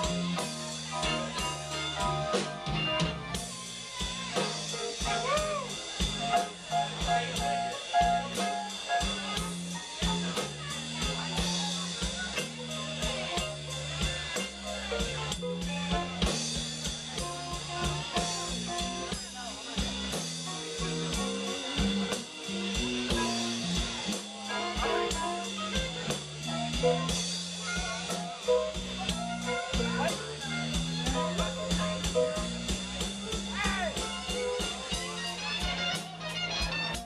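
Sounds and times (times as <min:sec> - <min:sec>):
drum kit beat: 0:00.0 - 0:37.0
keyboard: 0:00.0 - 0:37.0.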